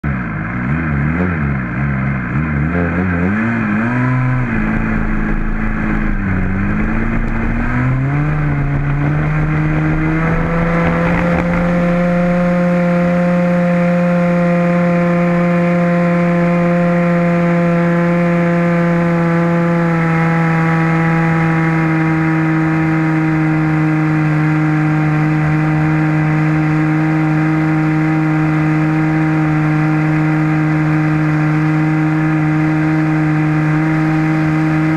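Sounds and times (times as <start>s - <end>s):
model airplane engine buzzing: 0.2s - 34.9s.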